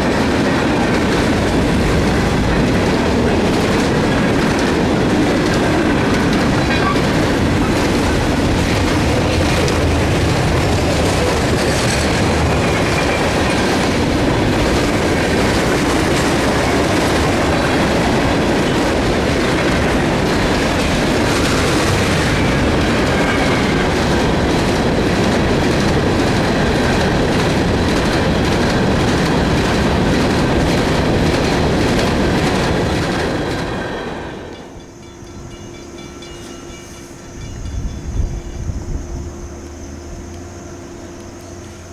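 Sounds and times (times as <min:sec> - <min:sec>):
wheels clicking over rail joints: 0:00.0 - 0:33.8
freight train cars rolling past: 0:00.0 - 0:41.9.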